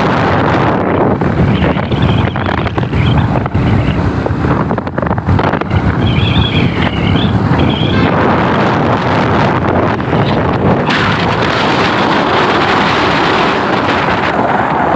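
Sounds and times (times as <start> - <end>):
motorcycle engine running: 0.0 - 14.8
wind buffeting microphone: 0.0 - 14.9.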